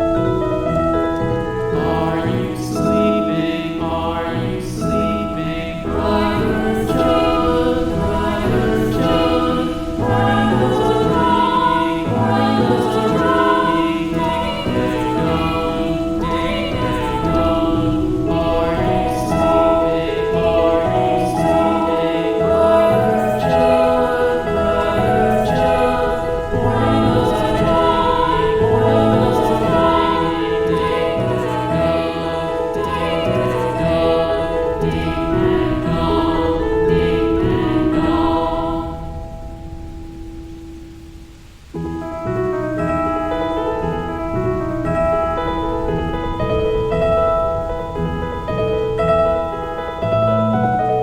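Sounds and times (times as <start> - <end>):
choir-like voices singing: 0.0 - 40.8, 41.8 - 51.0
slow relaxing music: 0.0 - 51.0.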